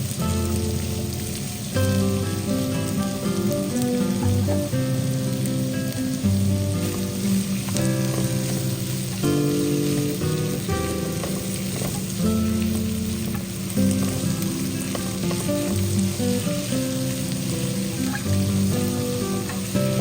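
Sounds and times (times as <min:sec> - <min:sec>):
vegetables sizzling in a pan: 0:00.0 - 0:20.0
background music sustained notes: 0:00.2 - 0:20.0.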